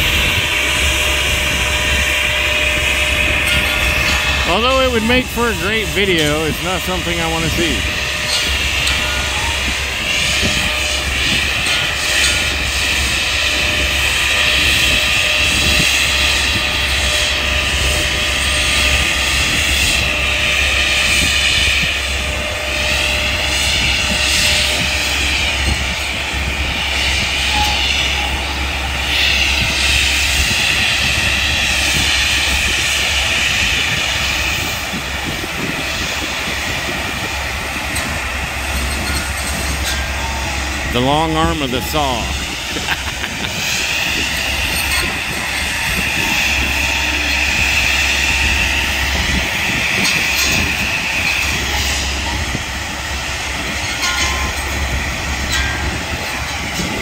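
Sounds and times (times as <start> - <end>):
low engine rumble: 0.0 - 57.0
rotary saw whining: 0.0 - 57.0.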